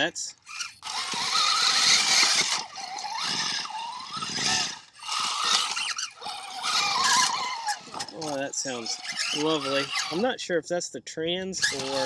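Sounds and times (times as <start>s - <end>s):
toy car drivetrain whining: 0.0s - 10.3s, 11.6s - 12.0s.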